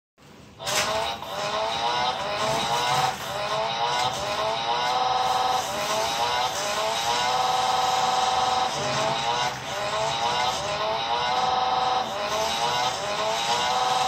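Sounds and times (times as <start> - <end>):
racing engine sound effect: 0.6 - 14.0
slot car running on track: 0.6 - 14.0.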